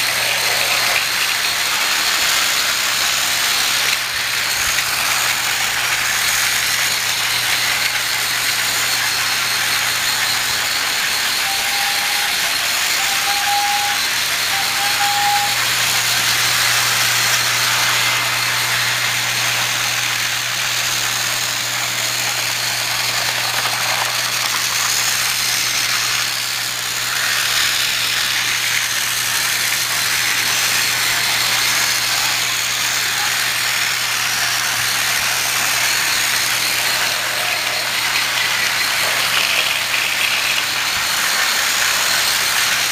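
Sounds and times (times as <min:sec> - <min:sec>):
toy train motor hum: 0:00.0 - 0:42.9
toy train rattling on track: 0:00.0 - 0:42.9.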